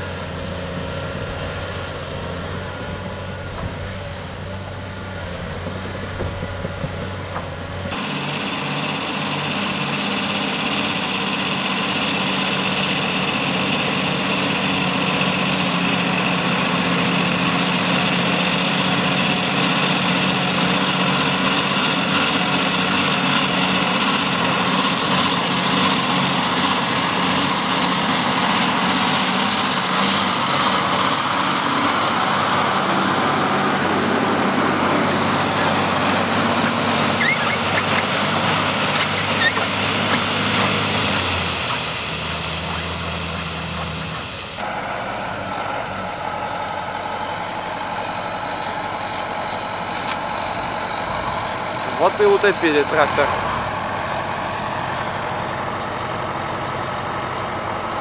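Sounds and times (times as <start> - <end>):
diesel truck engine running: 0.0 - 58.0
road noise: 0.0 - 58.0.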